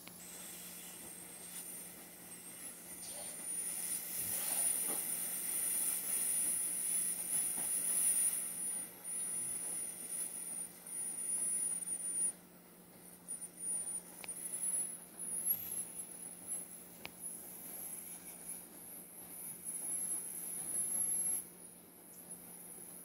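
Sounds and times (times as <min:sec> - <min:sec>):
high-pitched whine: 0:00.0 - 0:23.0
low hum: 0:00.0 - 0:23.0.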